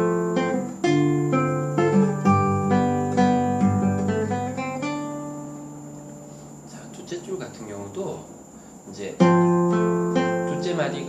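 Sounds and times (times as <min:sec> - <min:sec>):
classical guitar fingerpicked: 0:00.0 - 0:07.4, 0:09.0 - 0:11.0.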